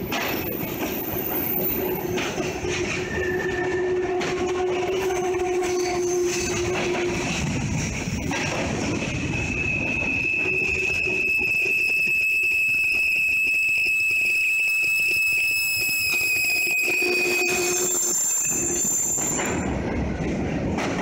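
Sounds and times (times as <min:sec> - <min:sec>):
steel wheels squealing: 0:00.0 - 0:19.9
train cars rumbling and clattering: 0:00.0 - 0:21.0.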